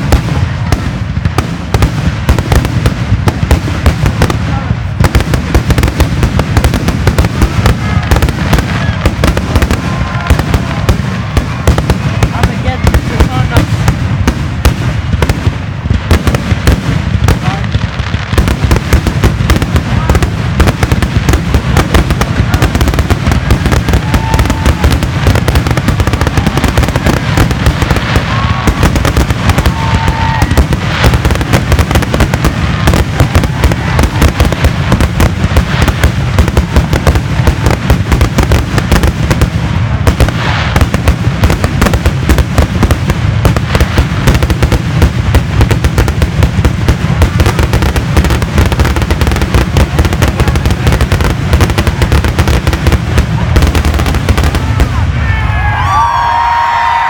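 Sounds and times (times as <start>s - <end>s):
fireworks bursts and crackling: 0.0s - 57.0s.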